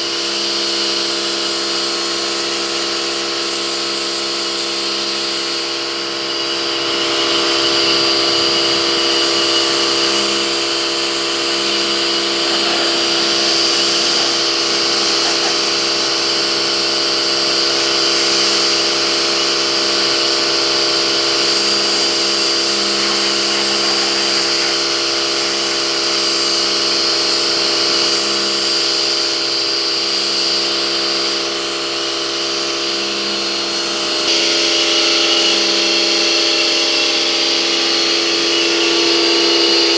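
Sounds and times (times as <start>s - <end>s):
high-pressure water spray hiss: 0.0s - 39.9s
pressure washer motor whine: 0.0s - 39.9s.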